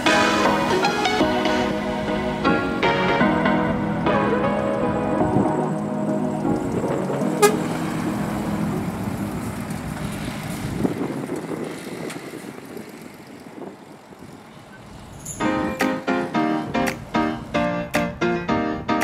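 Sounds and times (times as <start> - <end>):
truck diesel engine driving past: 0.0 - 17.6.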